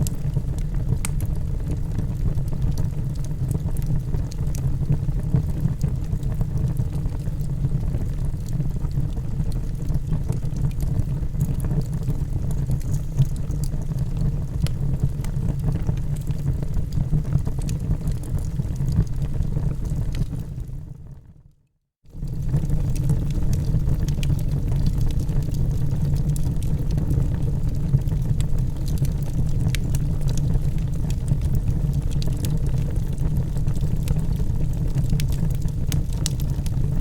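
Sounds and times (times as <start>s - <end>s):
burning logs crackling and popping: 0.0s - 20.7s, 22.2s - 37.0s
low rumble of flames: 0.0s - 21.4s, 22.1s - 37.0s.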